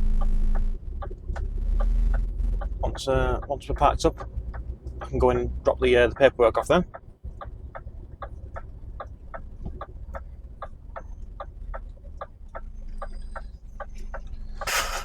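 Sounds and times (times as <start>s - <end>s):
evenly spaced clicking: 0.0s - 15.0s
low steady hum: 0.0s - 15.0s.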